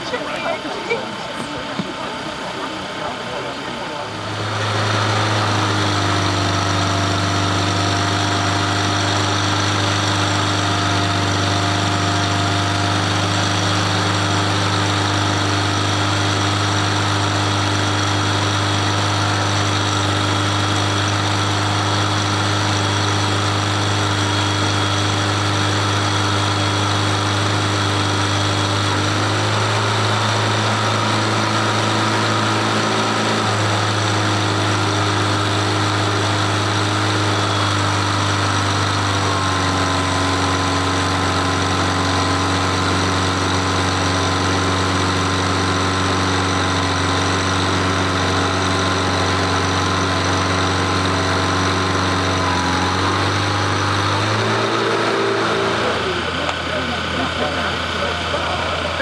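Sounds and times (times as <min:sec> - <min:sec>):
jet turbines idling: 0:00.0 - 0:59.0.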